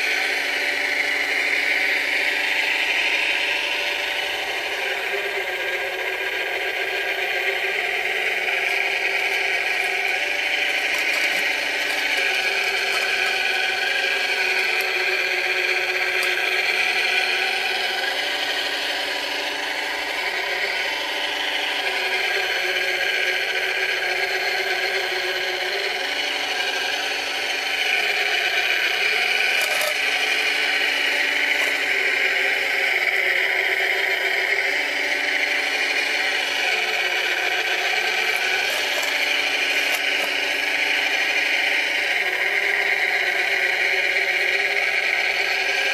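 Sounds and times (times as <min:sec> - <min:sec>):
electric motor and gear whine: 0:00.0 - 0:45.9.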